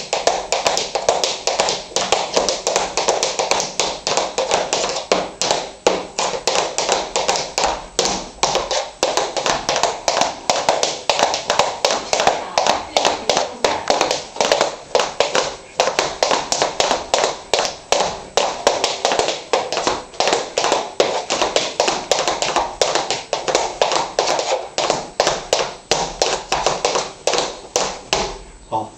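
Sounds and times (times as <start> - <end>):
hard shoes tapping on floor: 0.0 - 28.4.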